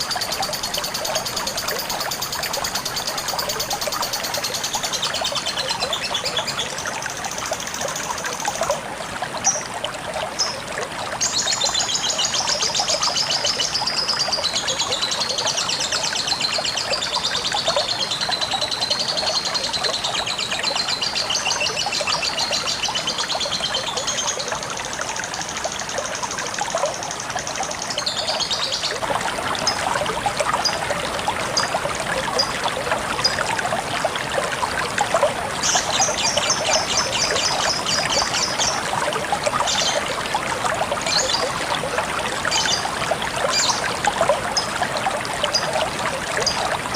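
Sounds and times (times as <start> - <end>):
water trickling: 0.0 - 46.9.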